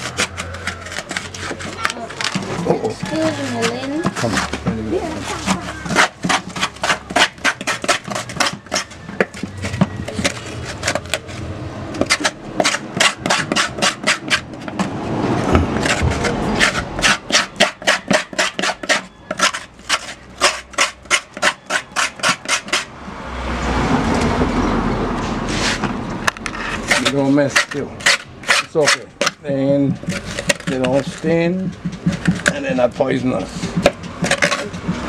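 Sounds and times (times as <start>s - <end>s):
metal spoon scraping gourd shell: 0.0s - 15.0s, 15.7s - 22.9s, 25.4s - 35.0s.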